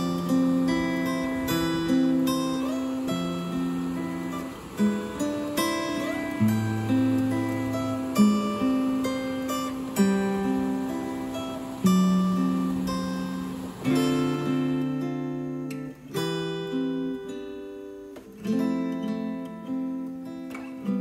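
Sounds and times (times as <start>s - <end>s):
acoustic guitar chords ringing: 0.0s - 21.0s.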